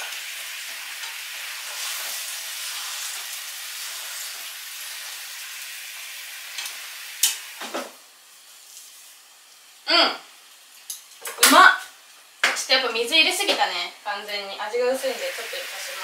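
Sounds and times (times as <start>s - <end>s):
chicken sizzling in frying pan: 0.0s - 16.0s.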